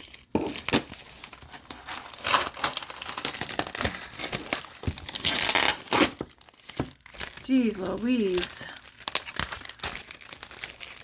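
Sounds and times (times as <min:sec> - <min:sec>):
package tape crinkling and tearing: 0:00.0 - 0:11.0.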